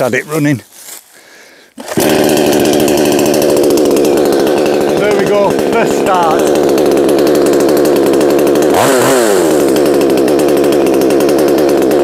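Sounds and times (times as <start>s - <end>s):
chainsaw idling and revving: 1.8s - 12.0s.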